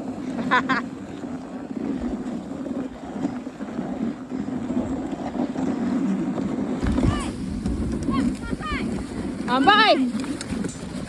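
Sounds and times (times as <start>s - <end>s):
sled runners scraping on snow: 0.0s - 11.0s
wind buffeting microphone: 1.1s - 11.0s.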